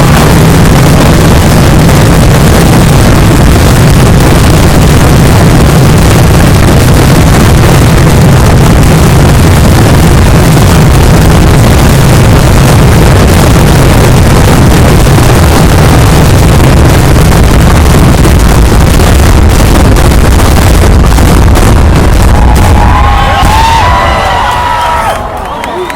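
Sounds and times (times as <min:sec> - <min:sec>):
fireworks barrage rumble: 0:00.0 - 0:25.9.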